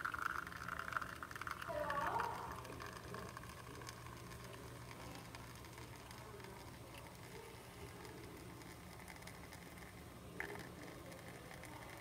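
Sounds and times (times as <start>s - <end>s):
espresso trickling into cup: 0.0s - 12.0s
low machine hum: 0.0s - 12.0s.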